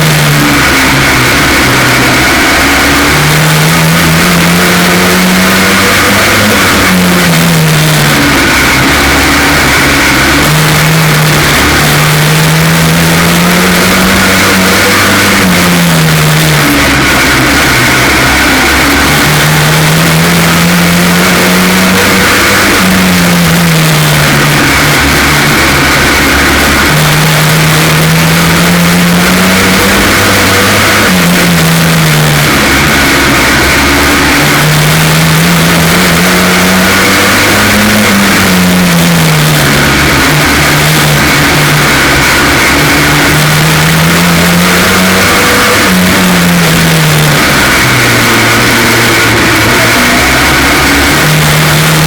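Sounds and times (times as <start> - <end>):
race car engine misfiring: 0.0 - 52.0.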